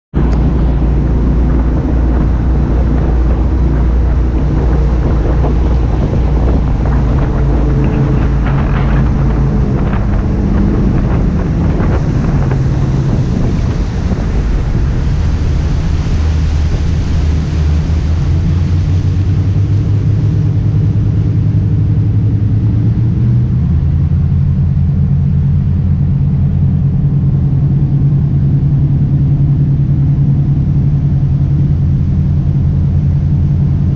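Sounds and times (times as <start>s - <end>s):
jet boat engines running: 0.1s - 33.9s.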